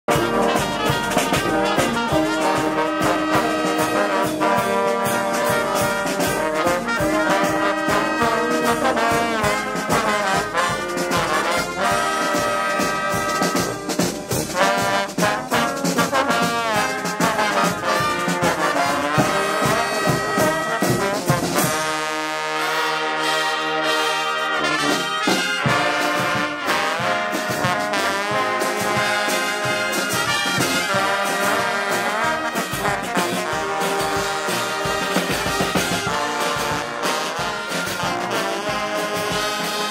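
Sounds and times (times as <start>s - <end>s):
brass band playing: 0.0s - 39.9s
marching drums and cymbals: 0.1s - 39.9s.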